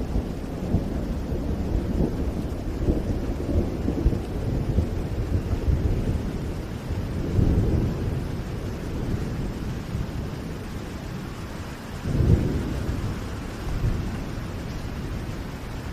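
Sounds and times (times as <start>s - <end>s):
rain falling: 0.0s - 15.9s
rolling thunder: 0.0s - 15.9s.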